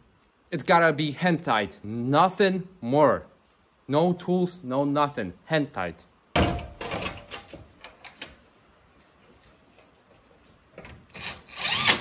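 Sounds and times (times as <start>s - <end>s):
faint noise: 0.0s - 11.4s.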